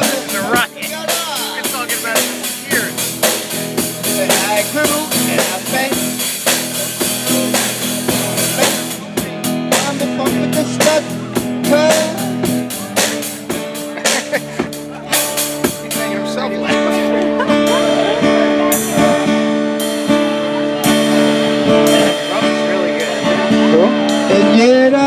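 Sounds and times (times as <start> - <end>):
drum kit beat: 0.0 - 25.0
electric guitar: 0.0 - 25.0.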